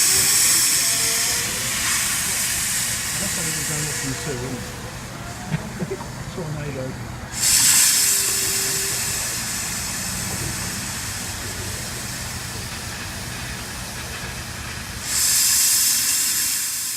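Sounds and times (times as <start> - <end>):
steam locomotive hissing steam: 0.0 - 16.9.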